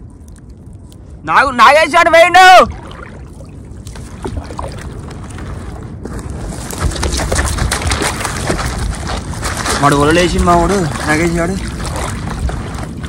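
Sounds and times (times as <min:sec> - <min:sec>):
small splashes and crackles: 0:00.0 - 0:01.2, 0:02.6 - 0:13.0
wind rumbling on microphone: 0:00.0 - 0:13.0.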